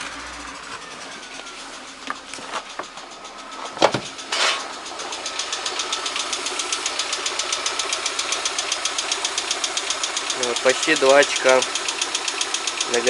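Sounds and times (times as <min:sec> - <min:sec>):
engine running: 0:00.0 - 0:13.0
engine ticking knock: 0:00.0 - 0:13.0.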